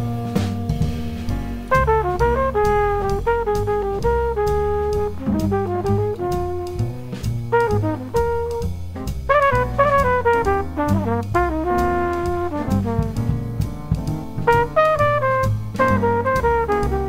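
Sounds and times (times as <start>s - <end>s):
trumpet solo: 0.0s - 13.4s, 14.4s - 17.0s
bass: 0.0s - 17.0s
drums: 0.0s - 17.0s
piano: 0.0s - 17.0s.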